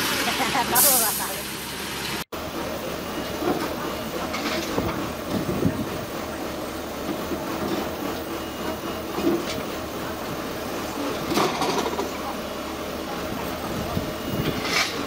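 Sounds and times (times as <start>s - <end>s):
heavy truck engine rumble: 0.0s - 15.0s.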